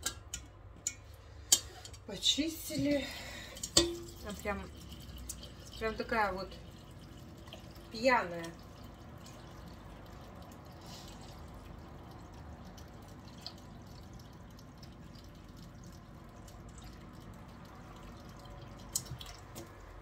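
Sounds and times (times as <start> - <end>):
water dripping in sink: 0.0 - 20.0.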